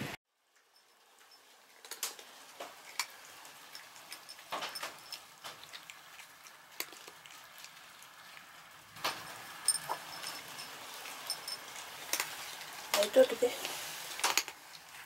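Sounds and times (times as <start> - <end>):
cats crunching dry kibble: 1.0 - 15.0.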